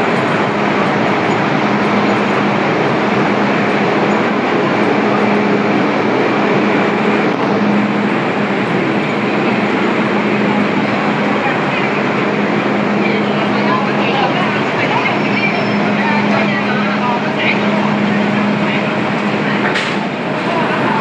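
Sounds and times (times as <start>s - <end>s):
train rail rumble: 0.0s - 21.0s.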